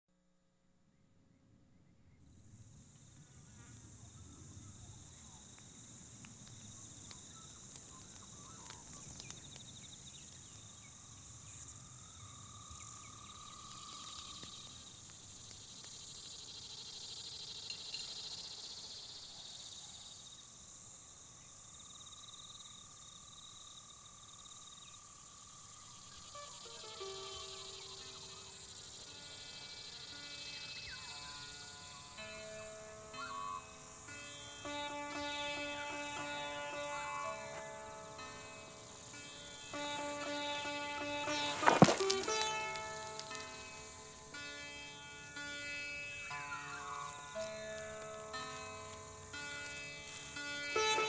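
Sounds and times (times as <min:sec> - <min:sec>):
insects chirring: 0:02.2 - 0:51.0.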